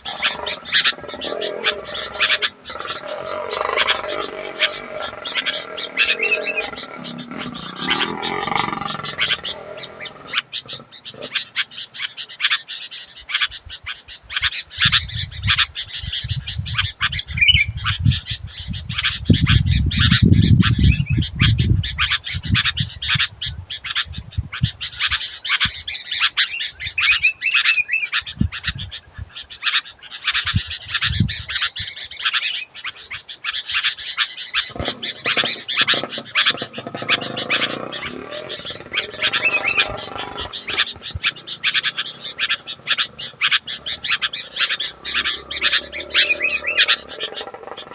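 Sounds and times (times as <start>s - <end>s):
birds chattering calls: 0.0s - 47.9s.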